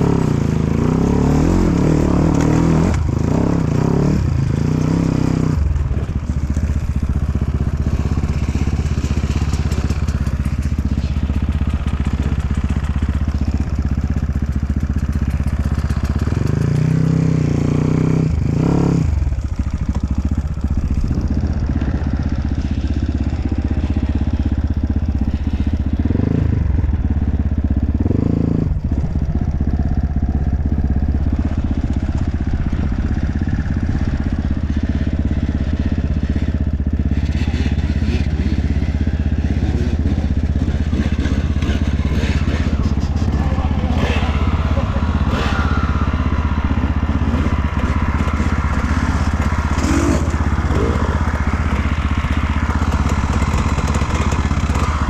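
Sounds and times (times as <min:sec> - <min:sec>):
dirt bike engine revving: 0:00.0 - 0:27.0, 0:32.6 - 0:55.0.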